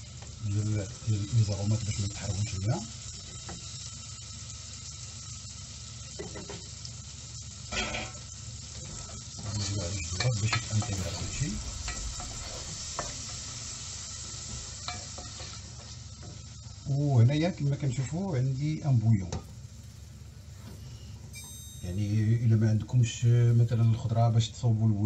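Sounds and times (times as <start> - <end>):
vegetables sizzling: 0.0 - 24.3.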